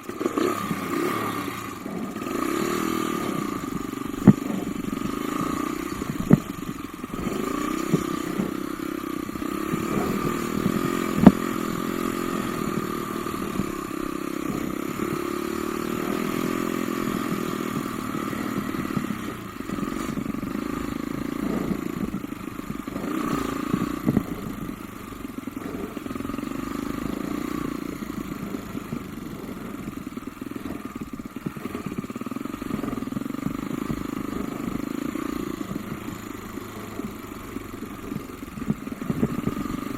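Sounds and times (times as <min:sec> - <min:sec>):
off-road motorcycle engine: 0:00.0 - 0:39.9.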